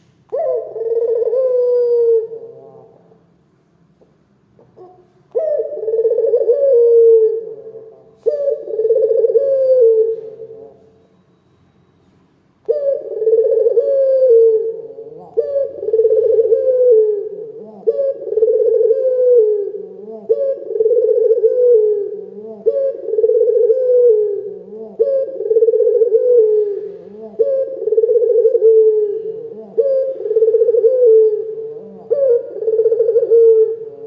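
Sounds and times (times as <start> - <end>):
dove cooing: 0.0 - 3.2, 4.6 - 11.1, 12.6 - 34.0.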